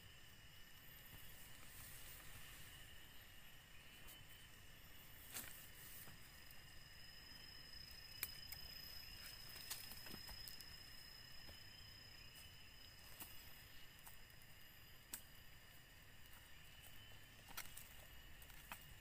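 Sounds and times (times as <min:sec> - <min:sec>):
high thin insect drone: 0:00.0 - 0:19.0.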